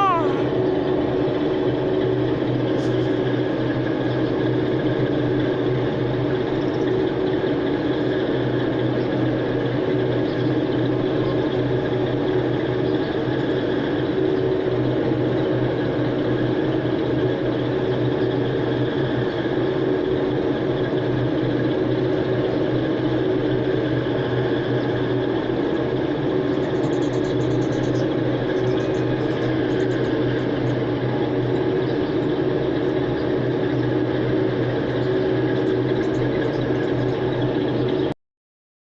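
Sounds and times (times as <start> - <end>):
machine drone with low hum: 0.4 - 38.2.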